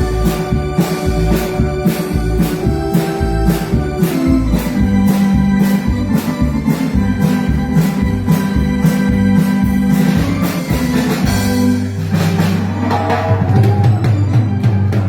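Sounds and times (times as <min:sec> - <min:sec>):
electronic keyboard music: 0:00.0 - 0:15.0.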